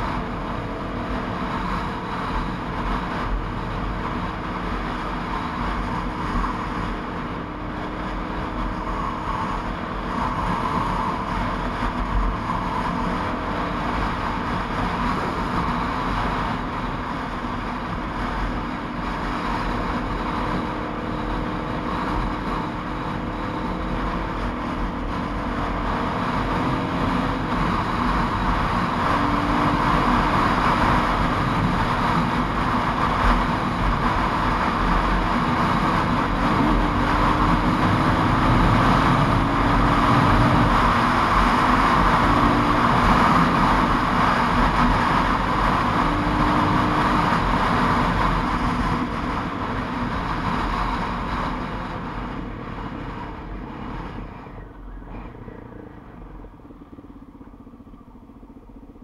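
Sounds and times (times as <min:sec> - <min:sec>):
motorcycle engine running: 0:00.0 - 0:59.0
wind noise over camera: 0:00.0 - 0:59.0.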